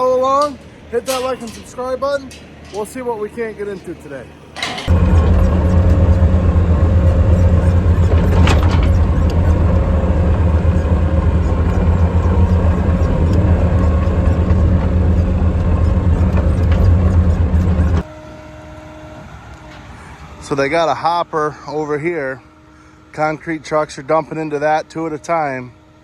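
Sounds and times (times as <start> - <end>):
large engine droning: 0.0 - 26.0.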